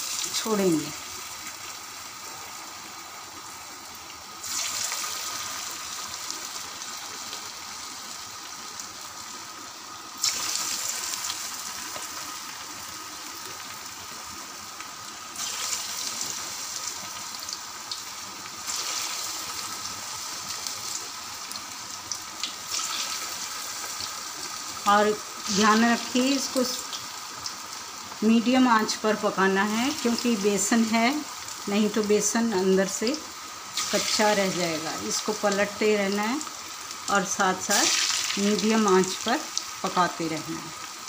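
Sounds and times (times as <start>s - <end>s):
batter balls deep-frying in oil: 0.0s - 41.0s.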